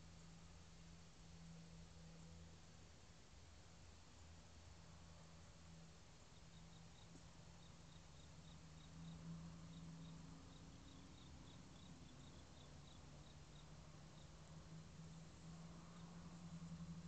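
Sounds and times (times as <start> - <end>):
faint cricket chirping: 0.0 - 17.0
low steady hum: 0.0 - 17.0.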